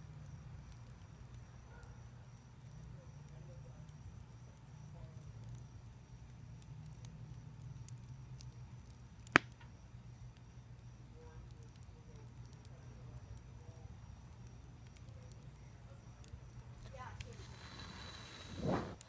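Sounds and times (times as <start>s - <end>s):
embers crackling: 0.0s - 19.0s.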